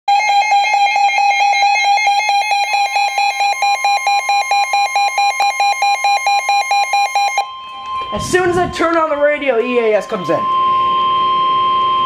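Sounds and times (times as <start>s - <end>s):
rapid high alarm beeps: 0.1s - 12.0s
steady alarm tone: 0.1s - 12.0s.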